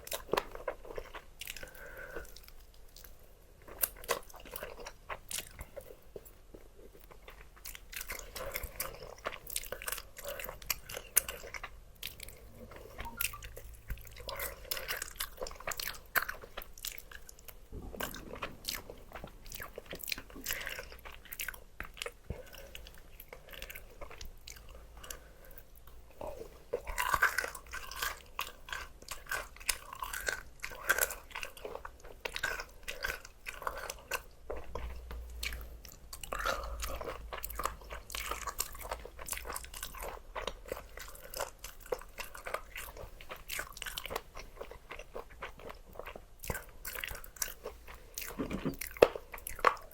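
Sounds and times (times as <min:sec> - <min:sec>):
crunchy chewing of fried chicken: 0:00.0 - 0:49.9.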